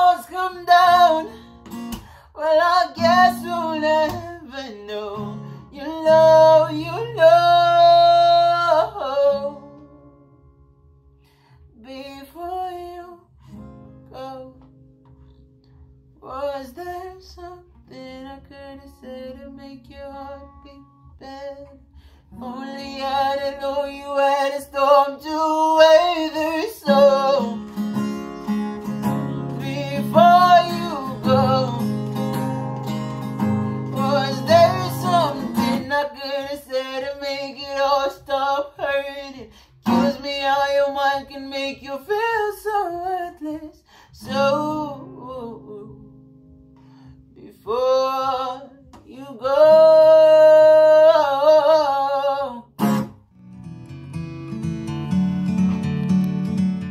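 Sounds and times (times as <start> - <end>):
man singing: 0.0 - 1.4, 2.0 - 10.3, 11.7 - 13.3, 14.1 - 14.6, 16.2 - 46.2, 47.4 - 52.8
acoustic guitar strumming: 0.0 - 11.6, 13.4 - 56.9.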